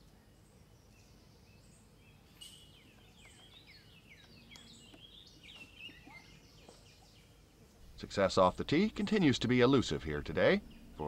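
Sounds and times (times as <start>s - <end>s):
birds chirping: 0.0s - 11.0s
low background hiss: 0.0s - 11.0s.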